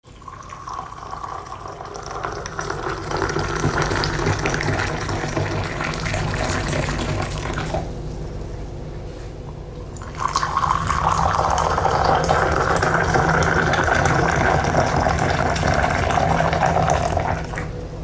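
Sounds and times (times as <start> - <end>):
water pouring: 0.1 - 7.8, 10.0 - 17.7.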